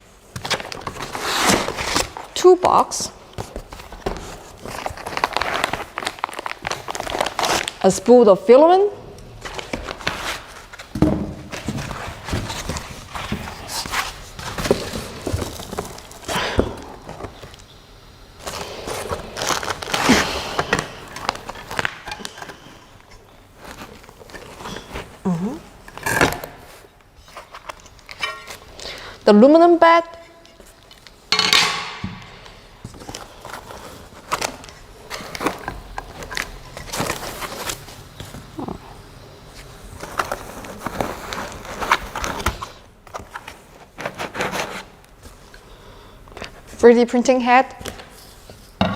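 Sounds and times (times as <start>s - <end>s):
packaging rustling and crinkling: 0.1s - 2.5s, 3.1s - 8.1s, 9.2s - 17.7s, 18.3s - 29.2s, 32.3s - 46.8s.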